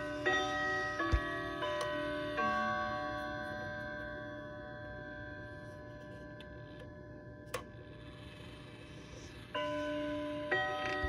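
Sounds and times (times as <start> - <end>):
wall clock chime ringing: 0.0 - 11.0.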